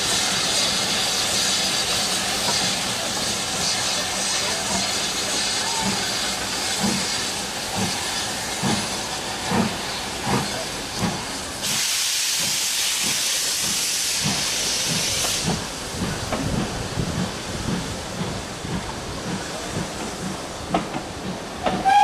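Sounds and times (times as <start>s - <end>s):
loud hiss of steam: 0.0s - 22.0s
steam train pulling away: 0.0s - 22.0s.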